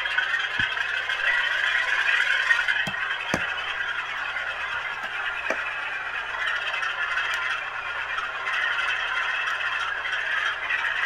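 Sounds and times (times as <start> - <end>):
model train diesel engine sound: 0.0 - 11.0.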